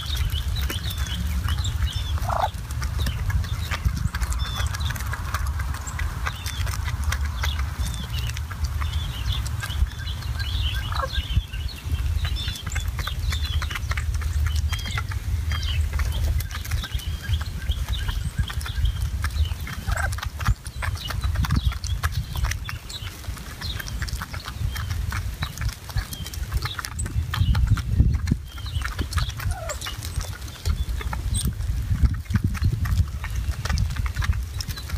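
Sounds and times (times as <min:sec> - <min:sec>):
pecking and scratching on gravel: 0:00.0 - 0:34.9
steady low rumble: 0:00.0 - 0:34.9
turkeys chirping and yelping: 0:00.0 - 0:34.9.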